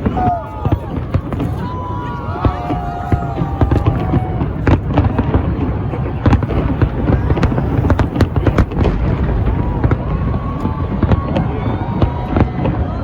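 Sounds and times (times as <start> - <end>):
distant fireworks rumble: 0.0 - 13.0
fireworks bangs and crackles: 0.0 - 13.0.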